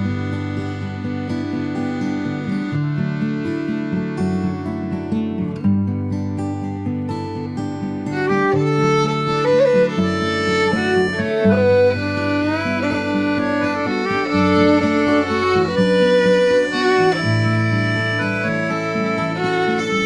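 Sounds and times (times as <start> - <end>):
fiddle melody: 0.0 - 5.6, 7.8 - 20.0.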